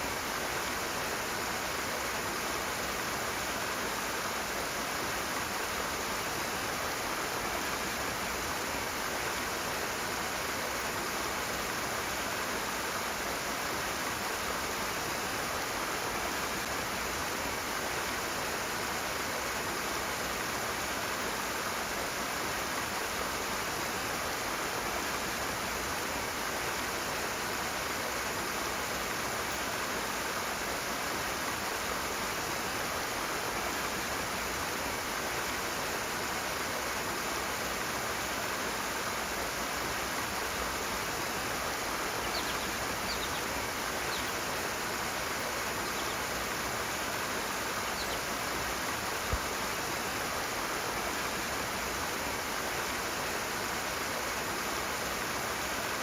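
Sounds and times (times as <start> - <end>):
fast-flowing stream rushing: 0.0 - 56.0.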